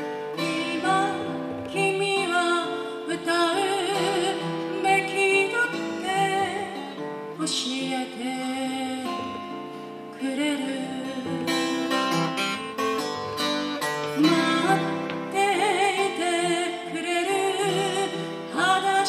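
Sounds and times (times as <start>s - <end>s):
woman singing slow song: 0.0s - 13.0s, 14.1s - 19.0s
strummed acoustic guitar: 0.0s - 19.0s.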